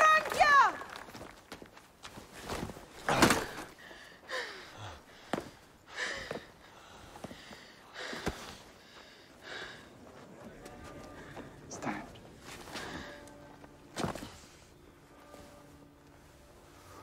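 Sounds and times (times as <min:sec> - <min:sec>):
armour and robes rustling: 0:00.0 - 0:04.2, 0:04.8 - 0:17.0.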